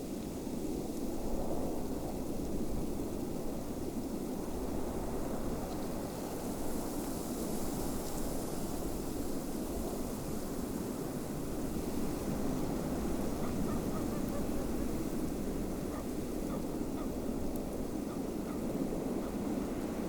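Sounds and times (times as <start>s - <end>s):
snowstorm wind blowing: 0.4s - 20.0s.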